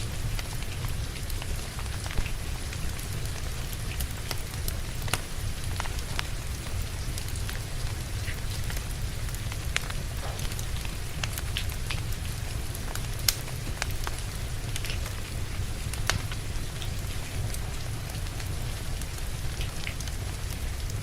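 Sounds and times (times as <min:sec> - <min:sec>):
fireplace logs crackling: 0:00.0 - 0:20.6
rain falling: 0:00.0 - 0:21.0.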